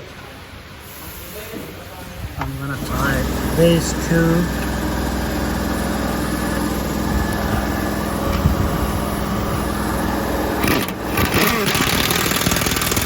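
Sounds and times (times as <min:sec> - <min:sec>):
low mechanical hum: 0:02.0 - 0:13.0.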